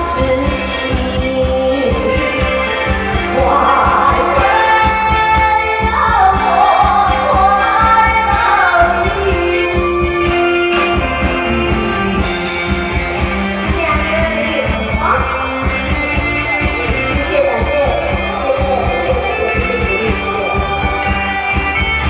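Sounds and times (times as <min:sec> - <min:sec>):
band backing track with beat: 0:00.0 - 0:22.0
person singing pop song: 0:00.0 - 0:22.0.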